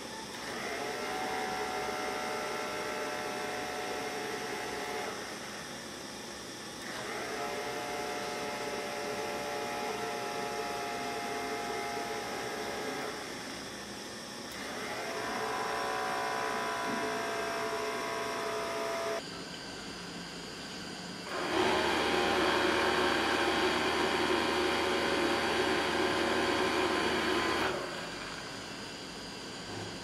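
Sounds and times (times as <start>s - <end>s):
small electric fan motor: 0.0s - 30.0s.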